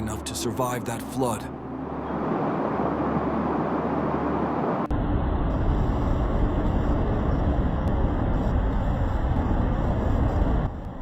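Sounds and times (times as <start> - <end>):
heavy low rumble: 1.5 - 11.0.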